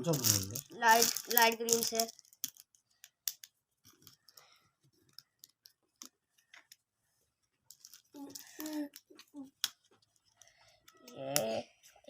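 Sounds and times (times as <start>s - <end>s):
plastic blocks clicking together: 0.1s - 6.8s, 7.7s - 11.6s.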